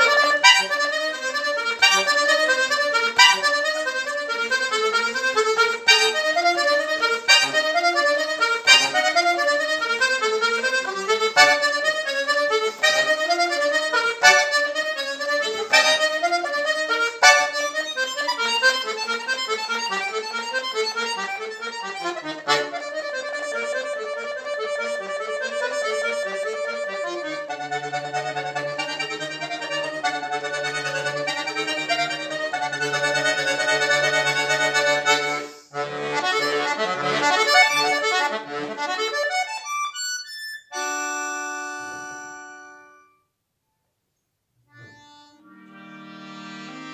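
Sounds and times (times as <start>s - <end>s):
accordion playing: 0.0s - 43.3s, 44.6s - 46.9s.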